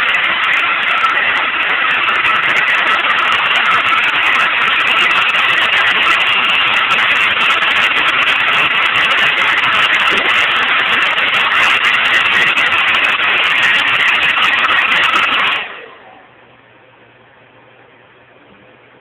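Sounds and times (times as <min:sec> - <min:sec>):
hair dryer blowing: 0:00.0 - 0:15.9.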